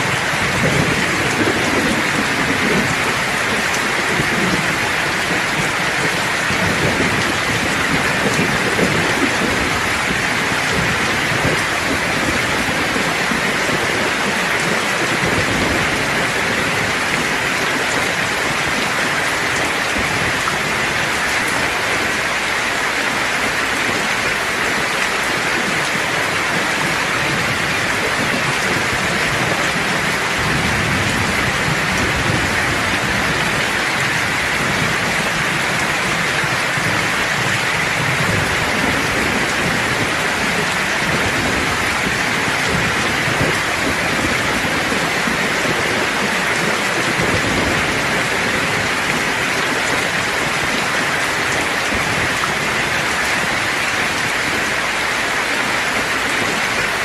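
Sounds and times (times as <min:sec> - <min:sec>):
distant thunder rumble: 0:00.0 - 0:56.8
steady rain: 0:00.0 - 0:57.0.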